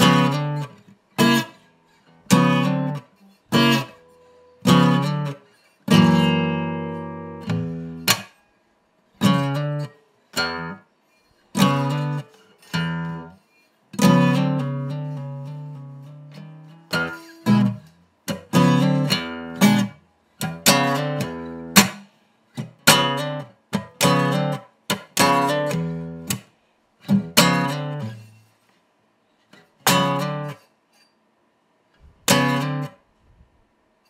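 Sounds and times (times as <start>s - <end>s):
muted acoustic guitar chords: 0.0s - 8.4s, 9.2s - 10.8s, 11.5s - 28.3s, 29.6s - 30.7s, 32.1s - 33.0s.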